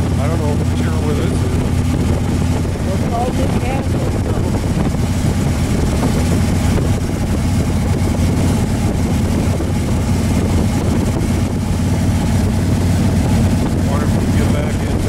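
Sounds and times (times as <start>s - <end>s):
vehicle engine cruising: 0.0s - 15.0s
wind and road noise: 0.0s - 15.0s.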